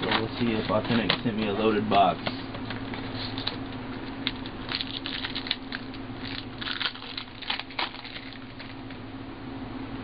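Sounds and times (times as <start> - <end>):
foil packs crinkling: 0.0 - 9.0.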